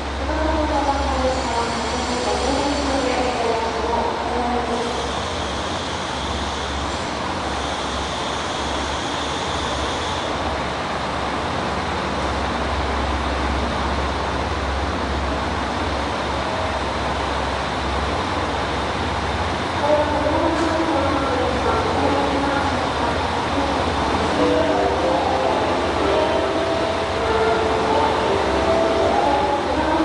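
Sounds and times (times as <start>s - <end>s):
diesel railcar engine throbbing: 0.0s - 30.0s.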